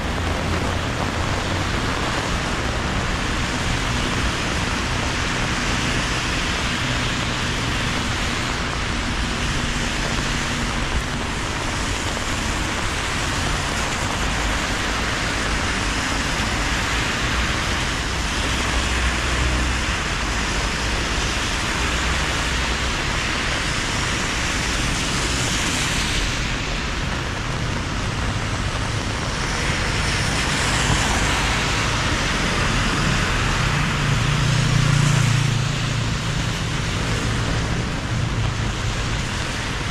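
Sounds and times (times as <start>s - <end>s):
engines rumbling low: 0.0s - 39.9s
steady rain hiss: 0.0s - 39.9s
tyres swishing on wet road: 0.0s - 39.9s.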